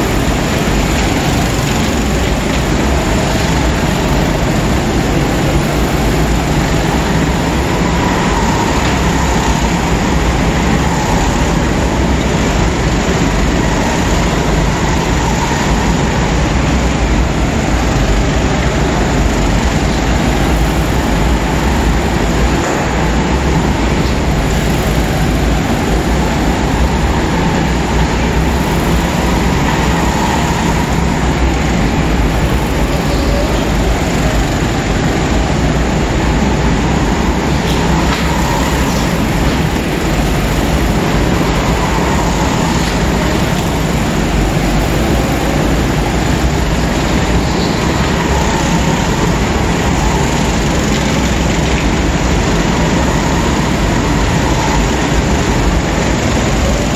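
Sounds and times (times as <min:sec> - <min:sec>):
go-karts racing: 0:00.0 - 0:56.9.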